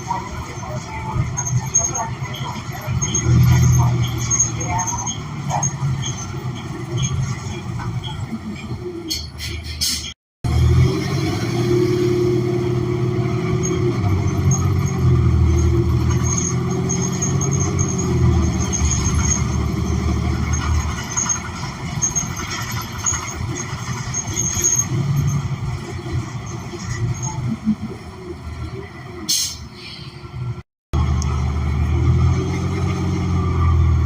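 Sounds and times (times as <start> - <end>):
bus engine humming: 0.0 - 34.0.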